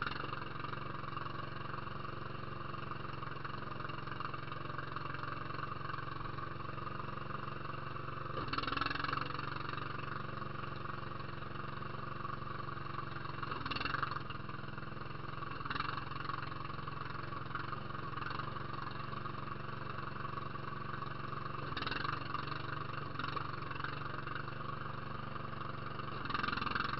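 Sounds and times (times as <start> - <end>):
small off-road vehicle engine: 0.0 - 26.9.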